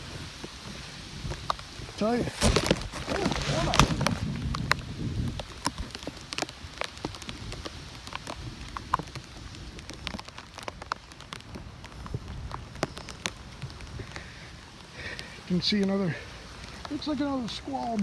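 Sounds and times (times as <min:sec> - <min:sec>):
low wind rumble: 0:00.0 - 0:17.5
raindrops tapping: 0:00.0 - 0:18.0.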